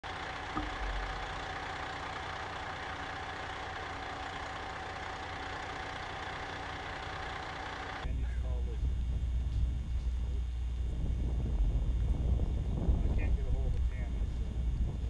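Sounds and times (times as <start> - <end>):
diesel engine idling: 0.0 - 15.0
faint engine whine: 0.0 - 15.0.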